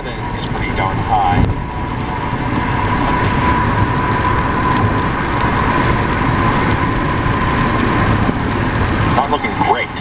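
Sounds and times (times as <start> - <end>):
low road rumble: 0.0 - 10.0
tyre spray and rain rushing: 0.2 - 10.0.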